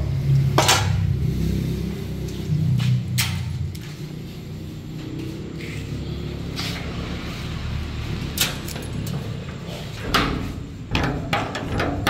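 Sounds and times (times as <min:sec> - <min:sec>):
low engine hum: 0:00.0 - 0:10.1.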